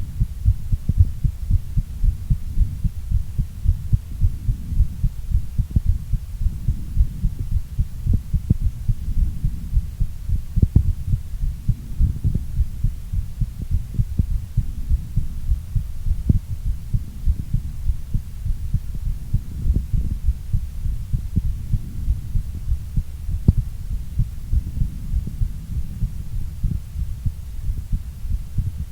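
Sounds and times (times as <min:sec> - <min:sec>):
heartbeat thumping: 0:00.0 - 0:28.9
low rumble: 0:00.0 - 0:28.9.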